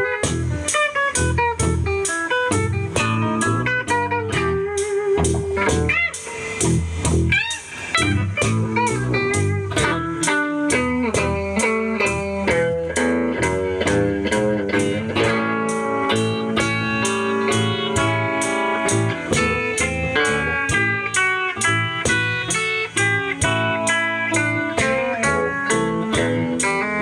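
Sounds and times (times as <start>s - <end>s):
blues guitar with bent notes: 0.0s - 27.0s
steady beat: 0.0s - 27.0s.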